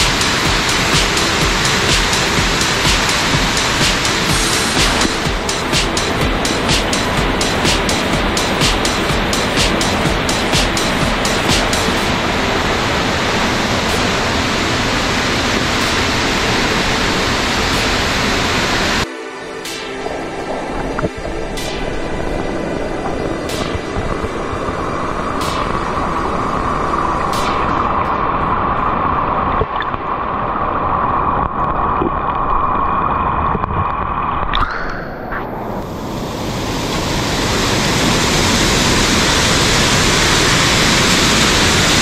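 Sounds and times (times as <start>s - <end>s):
stream rushing: 0.0s - 42.0s.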